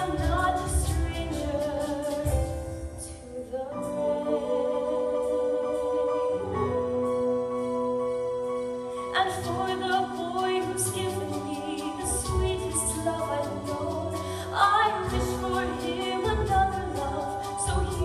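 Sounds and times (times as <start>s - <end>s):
orchestra accompaniment: 0.0s - 18.0s
woman singing a ballad with vibrato: 0.0s - 18.0s.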